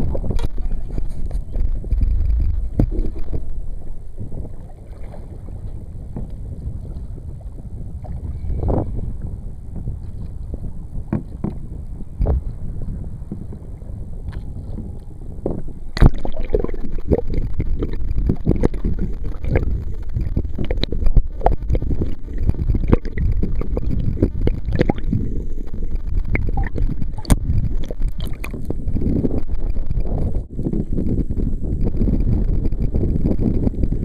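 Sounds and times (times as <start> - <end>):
water slapping kayak hull: 0.0 - 34.0
wind rumbling on microphone: 0.0 - 34.0.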